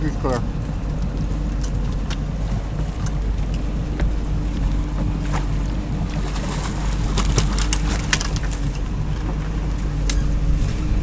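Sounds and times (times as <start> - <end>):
boat engine droning: 0.0 - 11.0
wind noise: 0.0 - 11.0.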